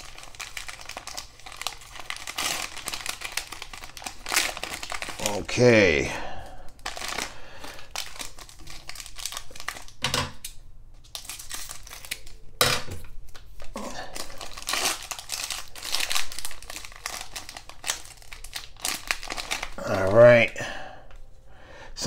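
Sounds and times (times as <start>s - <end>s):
plastic wrapper crinkling: 0.0s - 12.4s, 13.3s - 20.1s.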